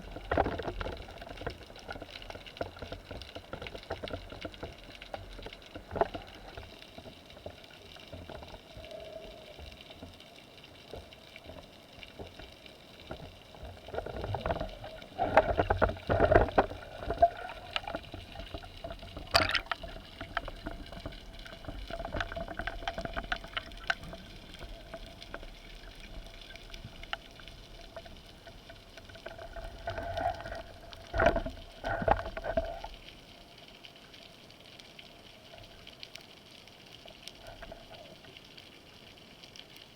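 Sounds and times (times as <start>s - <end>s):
water rushing: 0.0s - 33.6s
faint underwater hum and crackle: 0.0s - 39.9s.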